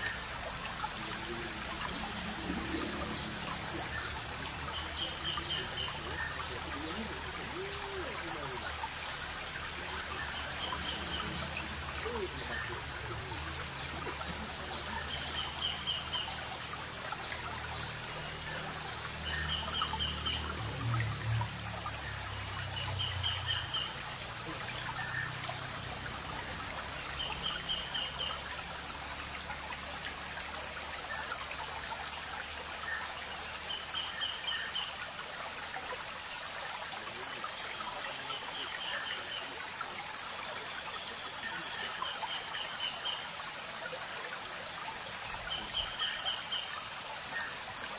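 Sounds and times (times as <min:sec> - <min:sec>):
stream trickling and babbling: 0:00.0 - 0:47.9.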